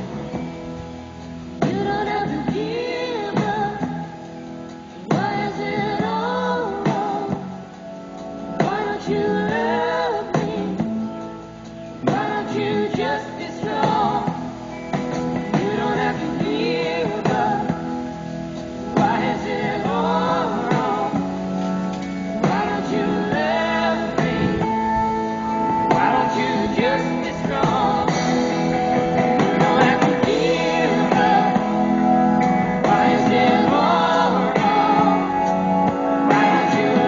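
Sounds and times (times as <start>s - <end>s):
song with band accompaniment: 0.0s - 37.0s.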